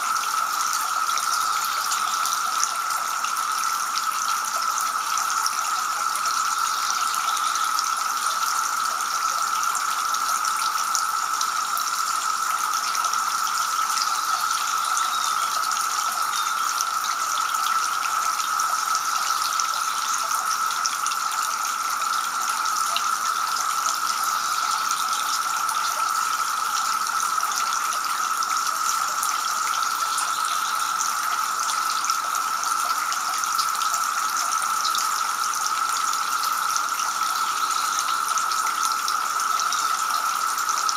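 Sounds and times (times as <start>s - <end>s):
fountain water splashing into basin: 0.0s - 40.9s.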